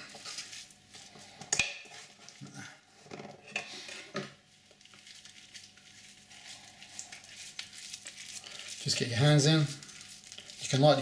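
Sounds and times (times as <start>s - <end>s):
hands squishing food mixture: 0.0s - 2.7s, 4.4s - 11.0s.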